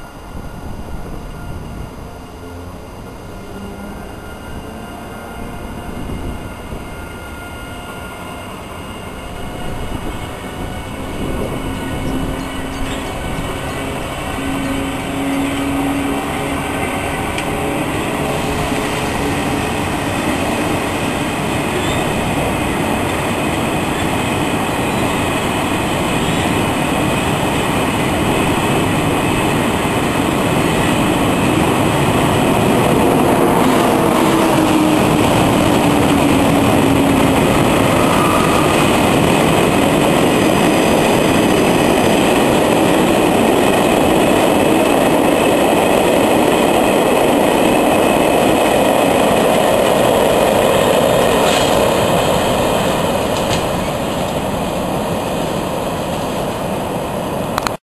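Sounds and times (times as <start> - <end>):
freight train rumbling on rails: 0.0 - 57.8.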